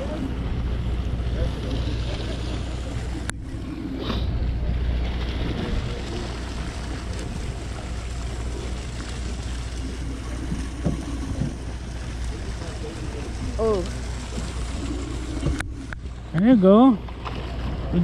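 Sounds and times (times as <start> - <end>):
low rumble: 0.0 - 18.0
water sloshing on boat hull: 0.0 - 18.0.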